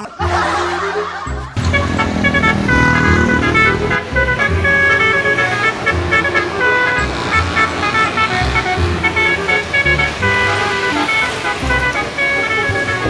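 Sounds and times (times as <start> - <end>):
high horn-like notes tune: 1.6 - 13.0.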